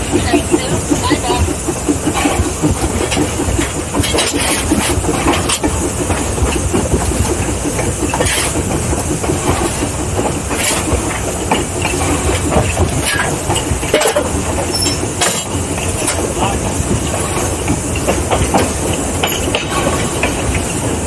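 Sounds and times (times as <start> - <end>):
steam locomotive exhaust chuffs: 0.0 - 21.0.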